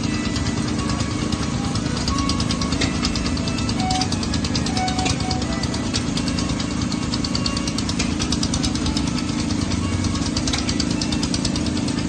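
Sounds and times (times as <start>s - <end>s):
model steam engines ticking: 0.0s - 12.0s.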